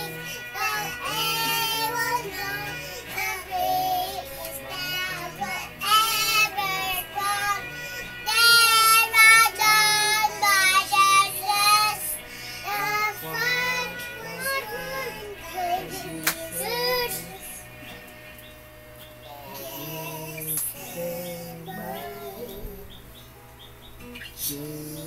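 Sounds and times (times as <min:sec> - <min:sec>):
girl singing: 0:00.0 - 0:17.7, 0:19.3 - 0:22.9
recorded music from tv: 0:00.0 - 0:25.0.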